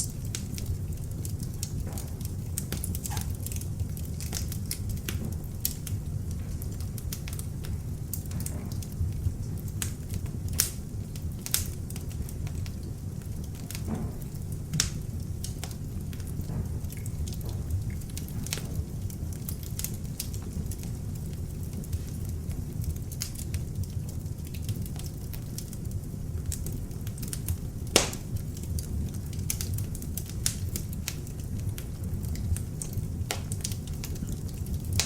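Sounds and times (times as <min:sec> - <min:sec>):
low rumble of flames: 0:00.0 - 0:35.0
wood crackling and popping: 0:00.0 - 0:35.0.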